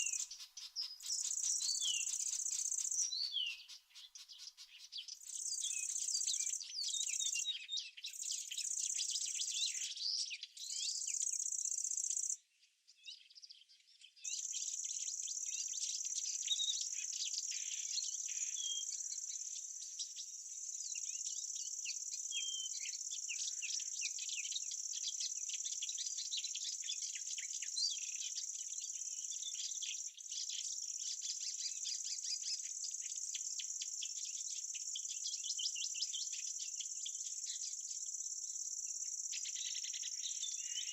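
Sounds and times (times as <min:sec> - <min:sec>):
bird chirps: 0:00.0 - 0:40.9.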